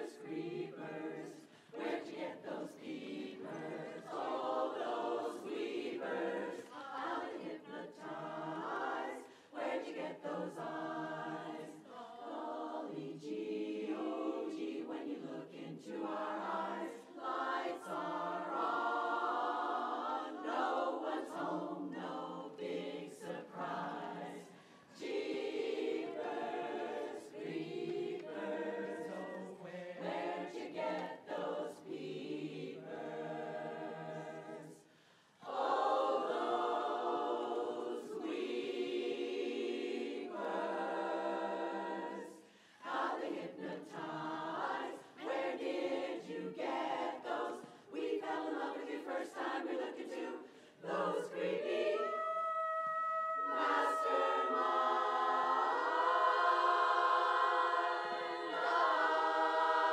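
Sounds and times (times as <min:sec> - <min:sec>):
women's chorus singing a cappella: 0:00.0 - 0:59.9.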